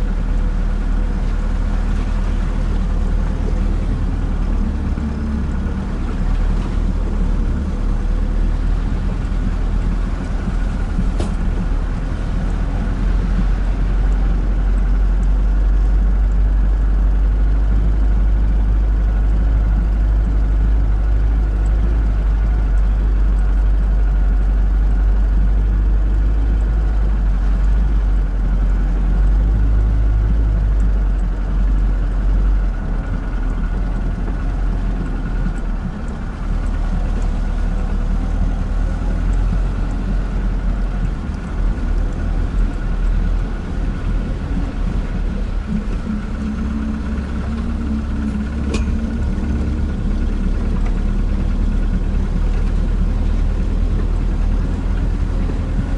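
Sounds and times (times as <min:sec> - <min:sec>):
van engine running: 0:00.0 - 0:55.9.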